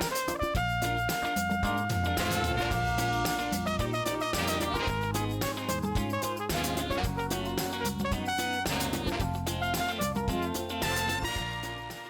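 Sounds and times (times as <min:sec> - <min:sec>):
instrumental music with a beat: 0:00.0 - 0:12.0.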